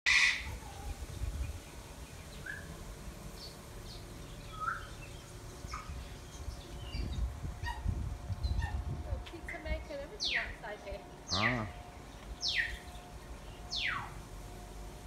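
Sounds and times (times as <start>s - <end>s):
birds chirping: 0.1s - 14.2s.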